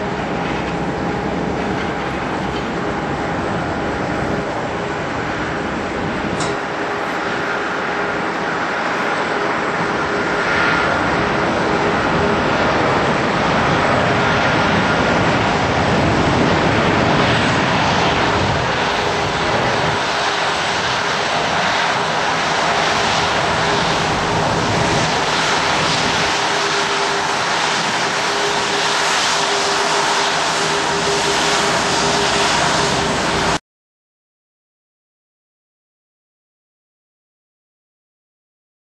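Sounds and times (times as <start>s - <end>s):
jet engines running: 0.0s - 33.6s.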